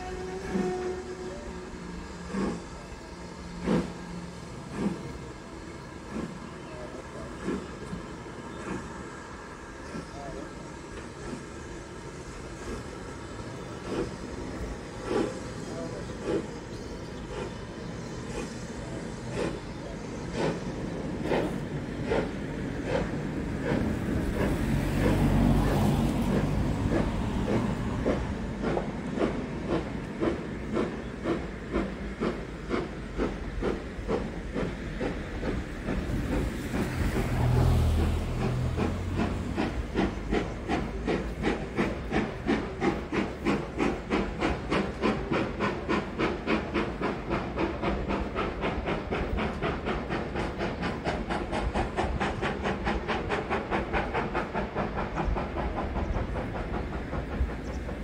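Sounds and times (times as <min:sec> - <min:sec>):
steam hissing: 0:00.0 - 0:58.0
steam locomotive exhaust beats: 0:00.0 - 0:58.0.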